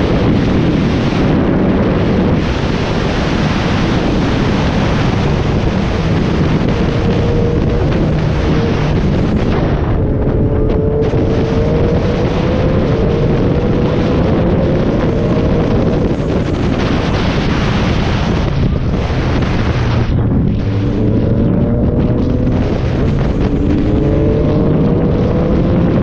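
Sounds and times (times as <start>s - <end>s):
motorcycle engine: 0.0s - 26.0s
wind buffeting microphone: 0.0s - 26.0s.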